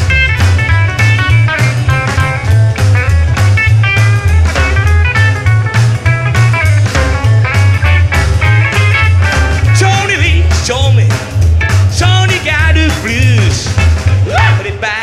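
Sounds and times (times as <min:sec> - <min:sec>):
drums: 0:00.0 - 0:15.0
lead guitar with bent notes: 0:00.0 - 0:15.0
plucked double bass: 0:00.0 - 0:15.0.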